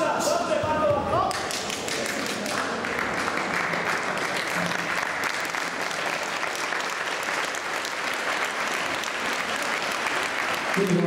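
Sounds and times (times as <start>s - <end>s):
crowd applauding: 1.2s - 11.0s.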